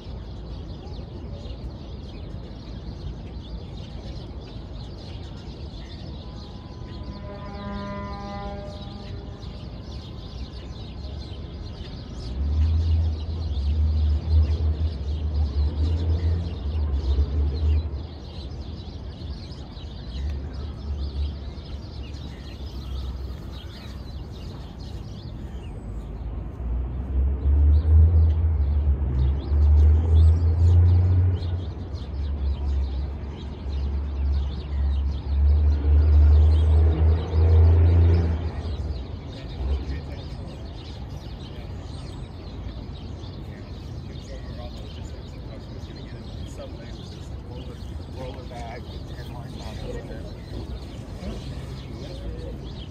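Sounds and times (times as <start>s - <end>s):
birds chirping: 0.0s - 52.9s
city hum: 0.0s - 52.9s.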